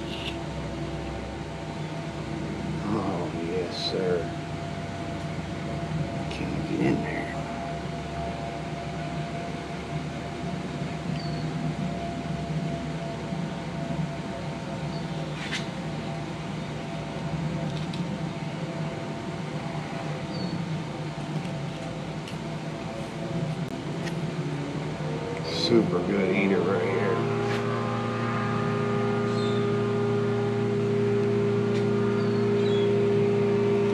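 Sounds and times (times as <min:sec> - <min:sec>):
mechanical hum: 0:00.0 - 0:33.9.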